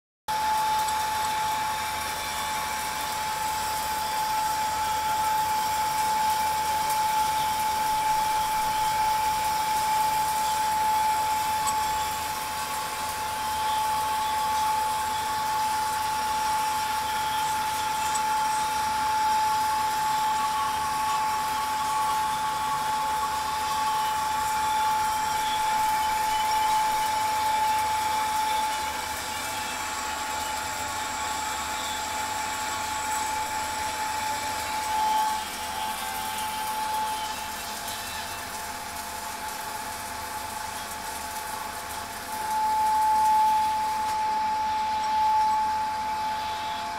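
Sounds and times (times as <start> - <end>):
metal lathe whining: 0.3 - 46.9.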